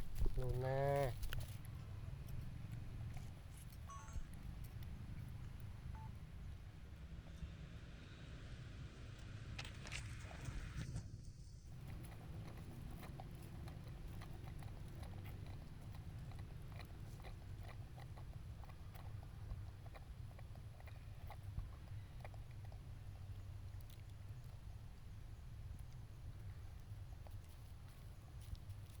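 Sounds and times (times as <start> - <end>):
monkey chewing food: 0.0 - 6.2, 11.7 - 29.0
low steady rumble: 0.0 - 29.0.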